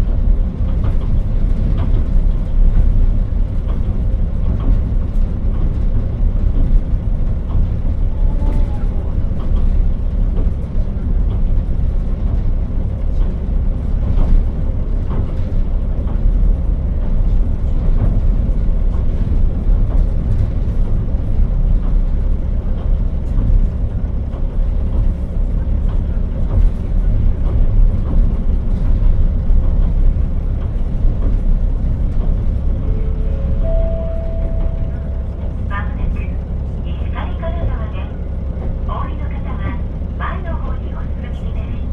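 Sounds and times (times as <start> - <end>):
wheels clicking on rails: 0.0 - 35.7
train engine and wheels rumbling: 0.0 - 41.9.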